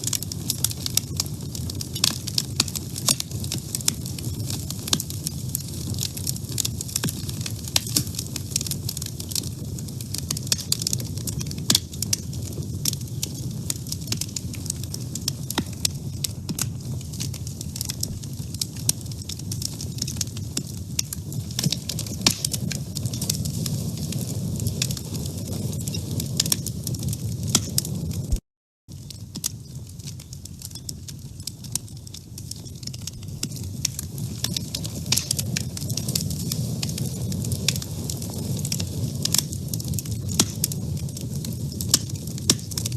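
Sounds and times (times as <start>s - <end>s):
low rumble of burning fire: 0.0s - 42.9s
wood fire crackling: 0.0s - 42.9s.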